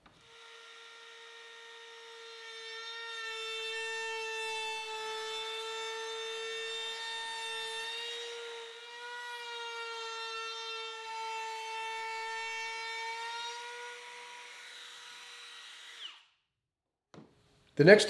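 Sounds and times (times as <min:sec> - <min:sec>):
router high-pitched whine: 0:00.0 - 0:16.3.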